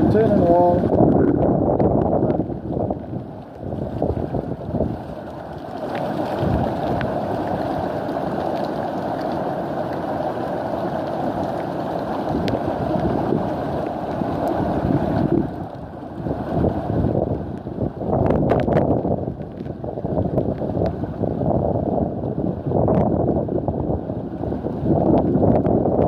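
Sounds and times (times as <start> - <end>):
wind on microphone: 0.0 - 9.3, 11.1 - 26.0.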